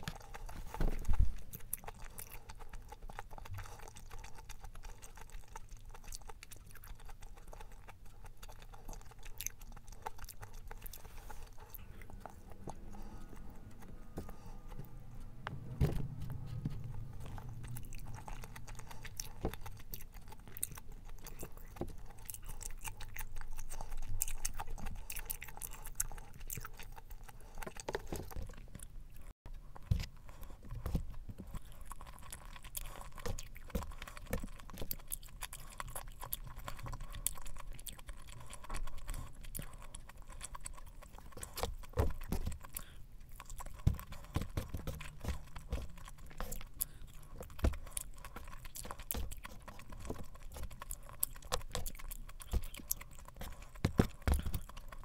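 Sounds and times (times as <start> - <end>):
chewing with wet mouth clicks: 0.0 - 55.0.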